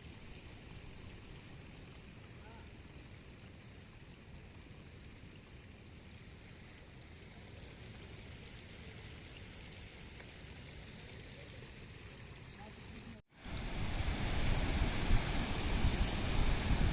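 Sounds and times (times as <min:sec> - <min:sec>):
rushing water: 0:00.0 - 0:16.9.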